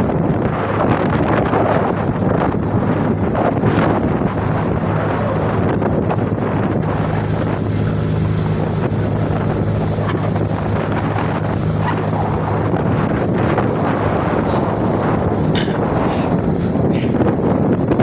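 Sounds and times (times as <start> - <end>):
boat engine humming: 0.0 - 18.0
wind buffeting microphone: 0.0 - 18.0.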